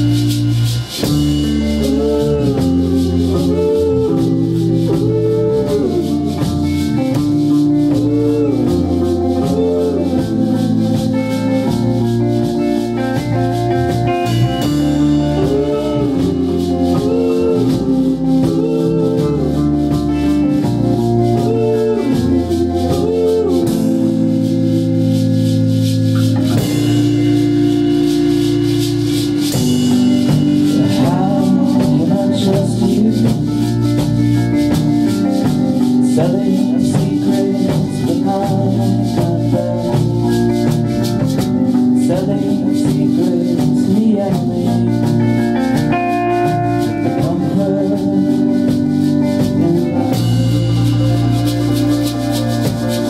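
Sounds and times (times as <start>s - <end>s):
drum kit beat with hi-hat: 0.0s - 53.0s
electric guitars: 0.0s - 53.0s
man singing: 1.0s - 13.3s, 13.9s - 25.7s, 29.9s - 52.0s.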